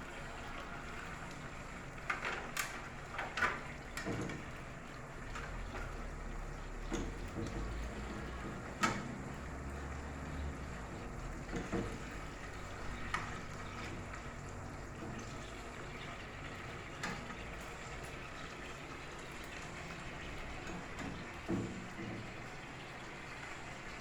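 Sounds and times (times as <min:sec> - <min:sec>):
sauce simmering in a pan: 0:04.4 - 0:24.0.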